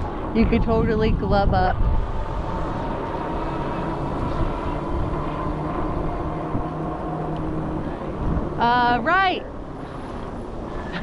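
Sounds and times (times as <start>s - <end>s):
electric bike motor whine: 0.0s - 9.0s
wind buffeting the microphone: 0.0s - 9.0s.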